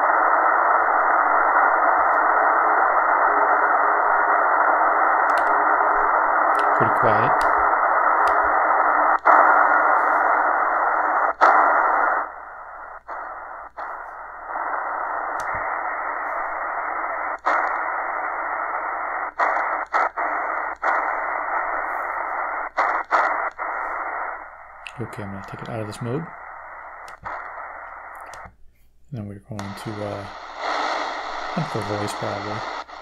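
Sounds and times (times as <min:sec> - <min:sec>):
shortwave radio static hissing: 0:00.0 - 0:33.0.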